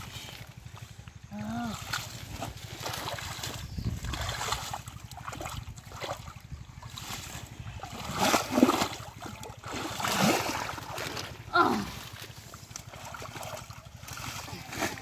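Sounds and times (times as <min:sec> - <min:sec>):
hands sloshing in muddy water: 0:00.0 - 0:15.0
plants pulled from water: 0:00.0 - 0:15.0.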